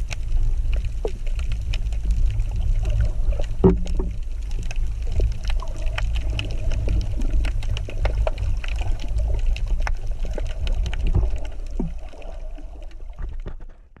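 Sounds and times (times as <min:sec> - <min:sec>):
sharp underwater clicks and crackles: 0:00.0 - 0:14.0
underwater rumble of moving water: 0:00.0 - 0:14.0.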